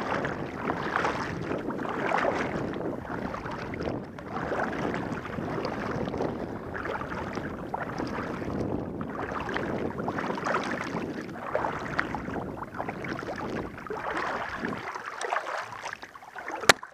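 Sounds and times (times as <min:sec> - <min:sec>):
river water sloshing: 0:00.0 - 0:16.9.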